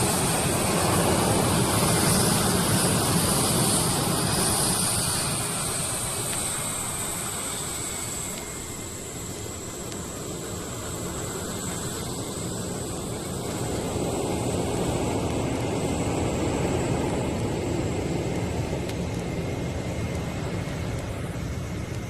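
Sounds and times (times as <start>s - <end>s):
jet engines roaring with whine: 0.0s - 22.0s.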